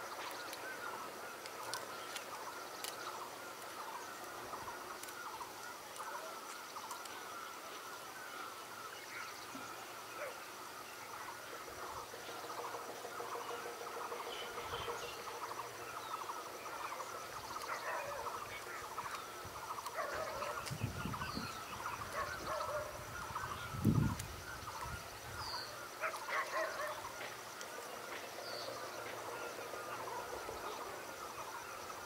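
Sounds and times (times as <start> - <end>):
birds chattering: 0.1 - 32.0.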